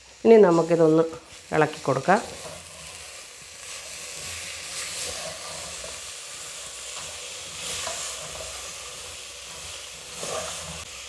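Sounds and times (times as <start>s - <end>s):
food sizzling in oil: 0.0s - 11.0s
wooden spoon stirring: 0.6s - 10.9s.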